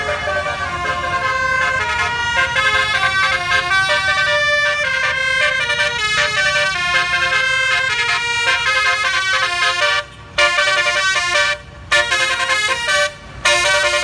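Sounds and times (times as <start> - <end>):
multi-tone air horns playing tune: 0.0 - 14.0.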